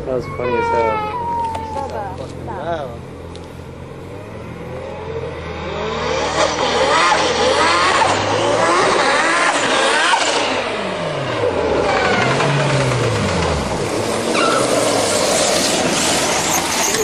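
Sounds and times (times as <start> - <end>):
car engine accelerating hard: 1.9 - 17.0.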